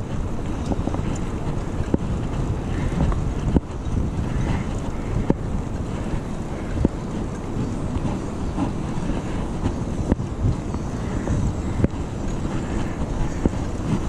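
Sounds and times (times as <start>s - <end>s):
bike tyres rumbling on bricks: 0.0s - 14.0s
wind buffeting microphone: 0.0s - 14.0s.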